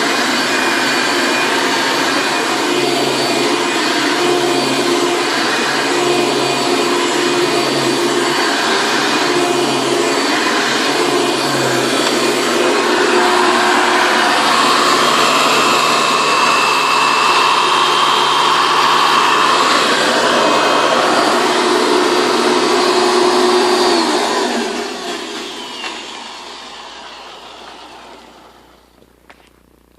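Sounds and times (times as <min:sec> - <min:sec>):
vacuum motor winding down: 0:00.0 - 0:29.0
vacuum cleaner running: 0:00.0 - 0:29.3.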